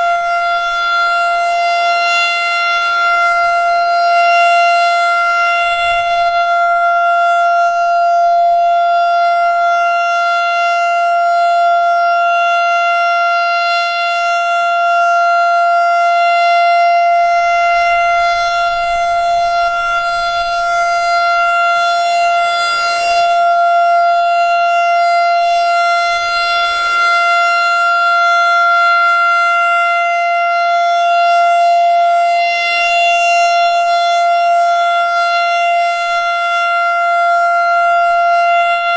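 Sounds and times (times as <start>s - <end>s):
electromechanical siren steady tone: 0.0s - 38.9s.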